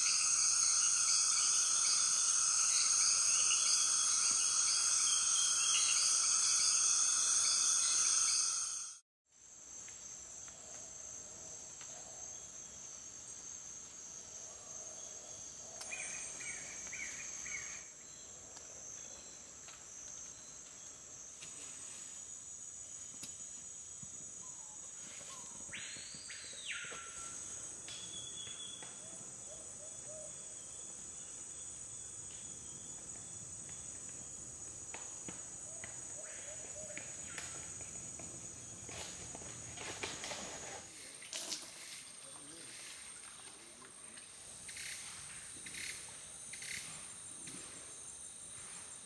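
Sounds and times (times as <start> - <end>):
insects high-pitched chorus: 0.0 - 49.0.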